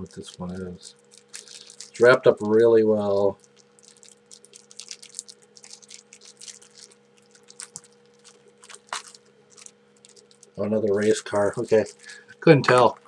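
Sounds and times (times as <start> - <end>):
low steady hum: 0.0 - 13.0
plastic wrapping crinkling: 0.0 - 13.0.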